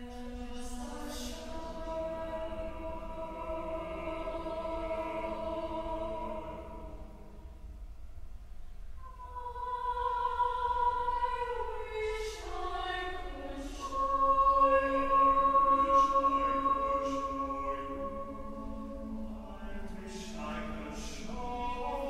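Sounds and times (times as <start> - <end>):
church choir singing: 0.0 - 7.4, 9.0 - 22.0.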